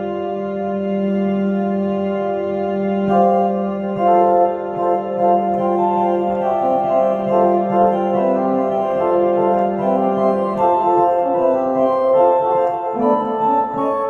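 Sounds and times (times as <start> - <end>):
organ chords: 0.0 - 14.0.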